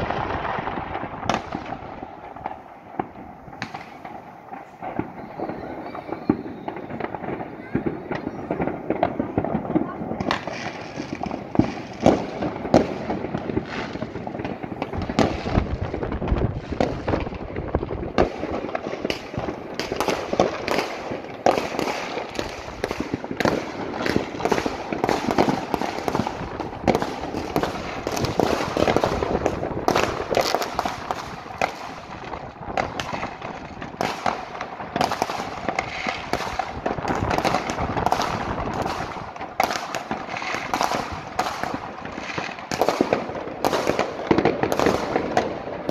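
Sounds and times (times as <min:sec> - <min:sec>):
fireworks banging and crackling: 0:00.0 - 0:45.9.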